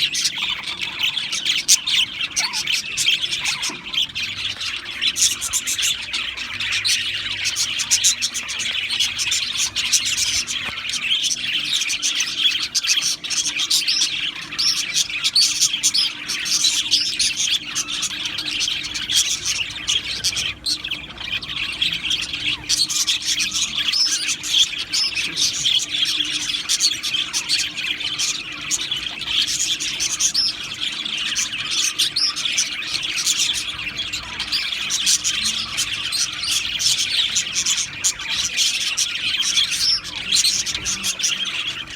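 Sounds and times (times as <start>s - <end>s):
budgerigars chirping and chattering: 0.0s - 41.9s.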